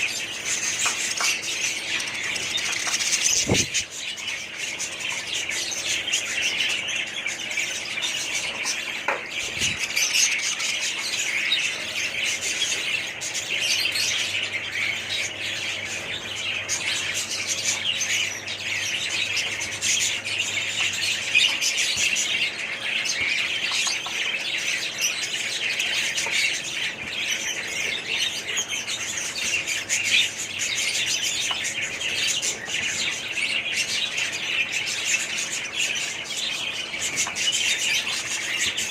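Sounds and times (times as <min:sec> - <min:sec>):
parrots chattering and chirping: 0:00.0 - 0:38.9.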